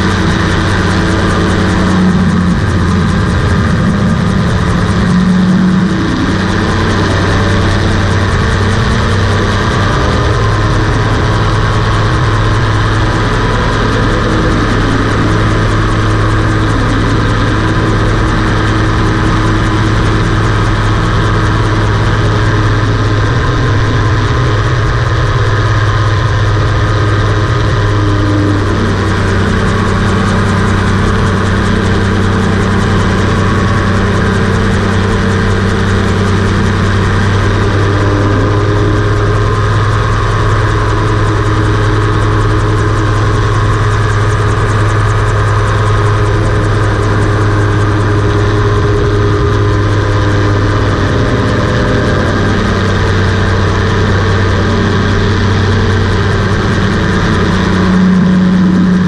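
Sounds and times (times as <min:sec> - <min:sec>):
two-stroke engine and propeller: 0:00.0 - 0:59.0.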